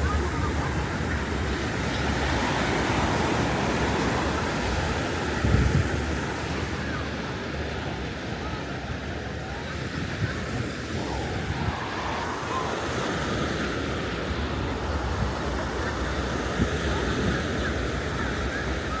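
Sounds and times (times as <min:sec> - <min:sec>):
wind on microphone: 0:00.0 - 0:07.1, 0:09.6 - 0:19.0
surf washing onto beach: 0:00.0 - 0:19.0.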